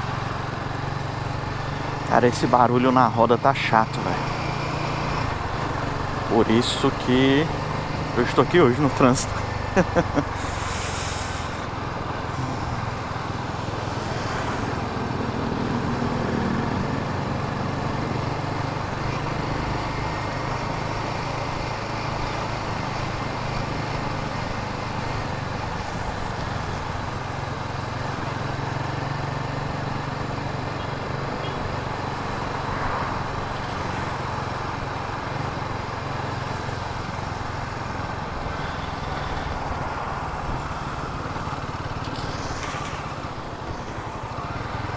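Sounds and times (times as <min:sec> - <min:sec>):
motorcycle engine running: 0:00.0 - 0:44.9
road and traffic noise: 0:00.0 - 0:44.9.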